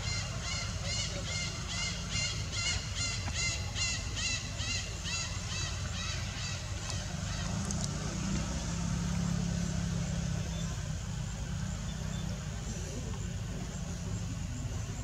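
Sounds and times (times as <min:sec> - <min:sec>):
low motor rumble: 0:00.0 - 0:15.0.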